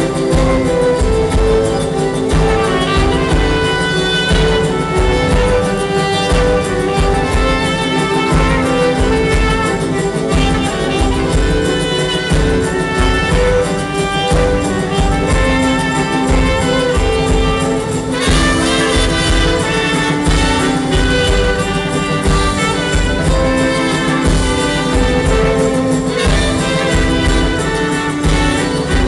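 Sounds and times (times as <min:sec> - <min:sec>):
live band playing instrumental: 0:00.0 - 0:29.0
trumpet: 0:00.0 - 0:29.0.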